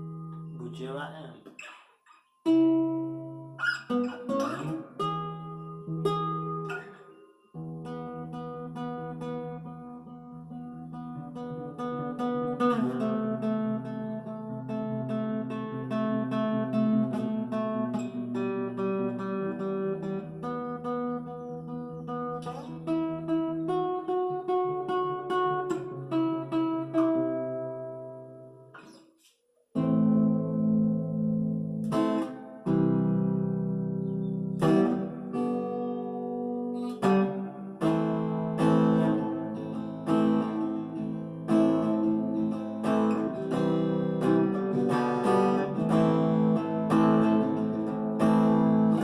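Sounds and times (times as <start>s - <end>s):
acoustic guitar playing: 0.0s - 49.0s.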